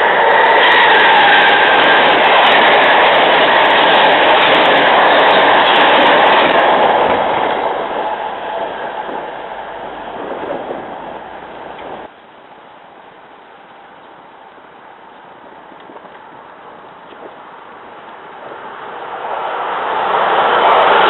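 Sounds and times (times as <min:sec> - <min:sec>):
passenger train passing at speed: 0:00.0 - 0:21.0.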